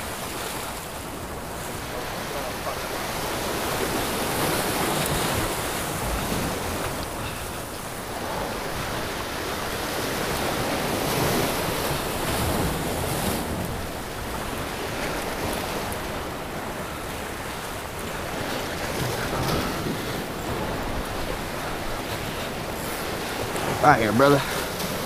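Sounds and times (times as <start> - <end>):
surf breaking over rocks: 0.0 - 25.0
wind on microphone: 0.0 - 25.0.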